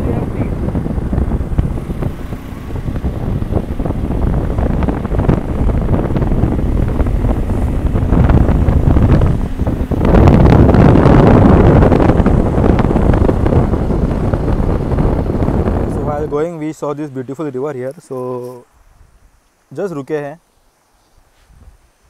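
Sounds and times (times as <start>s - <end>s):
wind buffeting microphone: 0.0s - 19.4s, 21.1s - 22.0s.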